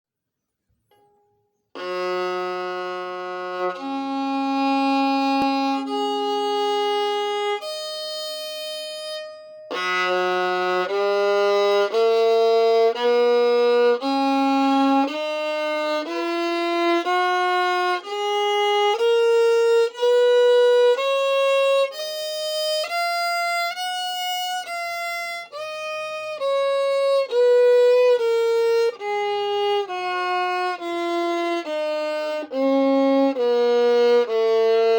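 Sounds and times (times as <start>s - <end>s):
solo violin bowed: 1.7s - 34.9s.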